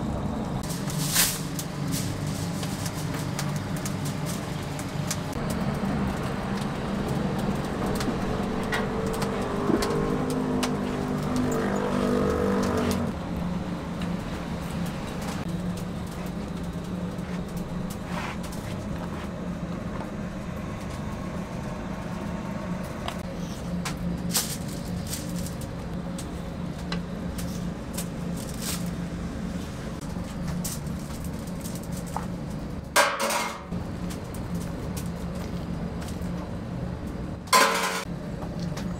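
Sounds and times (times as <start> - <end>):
noisy clatter: 0.0 - 29.1, 30.0 - 38.1
engine-like drone: 0.0 - 38.9
traffic: 0.0 - 38.9.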